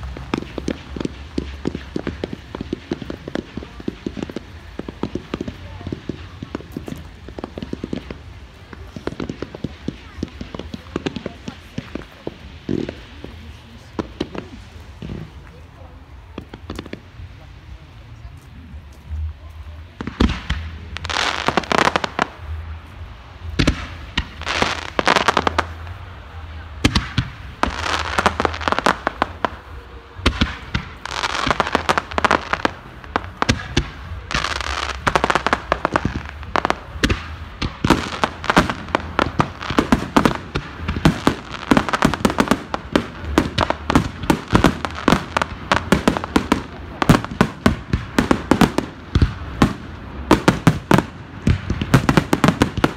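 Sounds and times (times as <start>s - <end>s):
firework hiss: 0.0s - 52.9s
fireworks banging and crackling: 0.0s - 52.9s.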